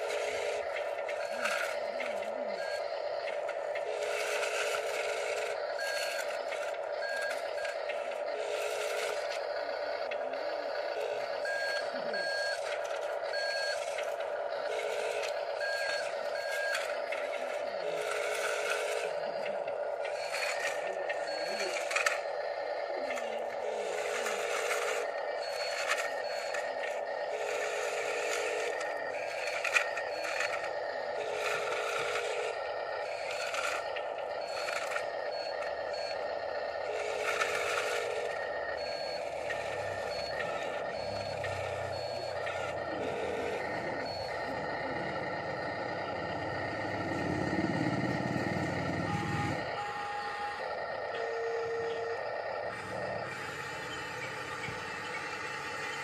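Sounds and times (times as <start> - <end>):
electric motors whining: 0.0 - 56.0.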